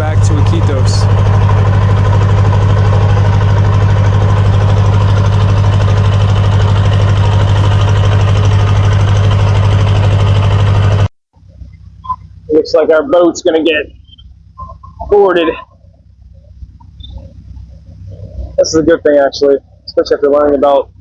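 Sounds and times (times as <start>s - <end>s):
speedboat engine running: 0.0s - 21.0s.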